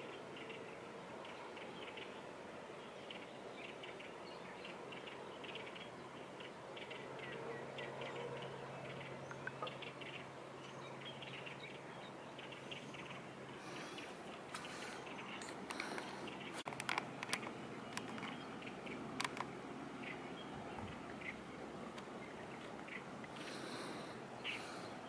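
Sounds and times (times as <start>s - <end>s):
small birds chirping: 0.0s - 25.0s
steady background hum: 0.0s - 25.0s.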